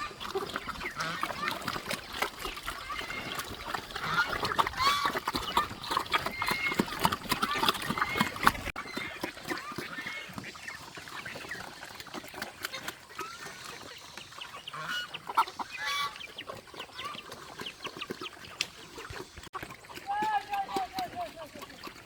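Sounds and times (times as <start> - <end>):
poultry squawking and clucking: 0.0 - 22.0.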